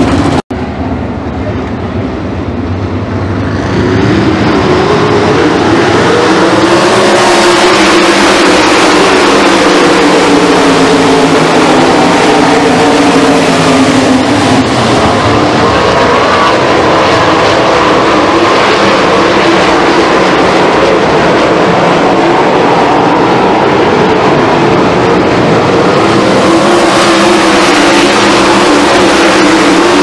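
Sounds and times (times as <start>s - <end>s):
race car engines droning: 0.0s - 30.0s.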